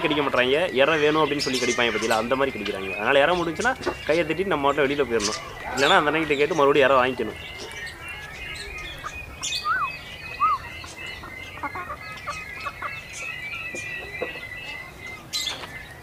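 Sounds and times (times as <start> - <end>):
small birds chirping: 0.0 - 16.0
short arched bird calls: 0.8 - 16.0.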